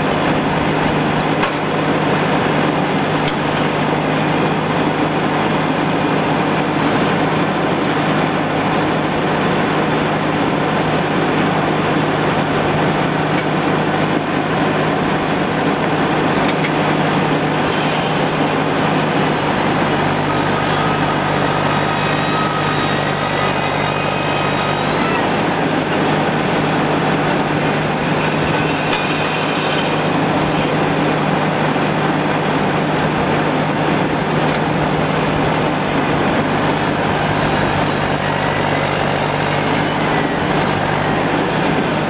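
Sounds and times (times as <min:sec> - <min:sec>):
sawmill running: 0:00.0 - 0:42.0.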